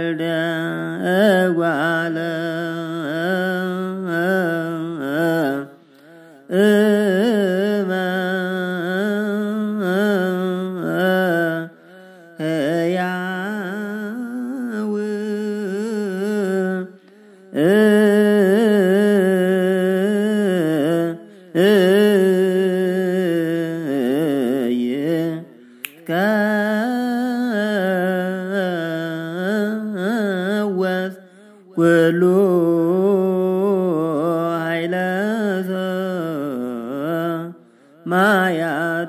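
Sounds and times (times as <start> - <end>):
solo voice chanting a hymn: 0.0 - 39.0.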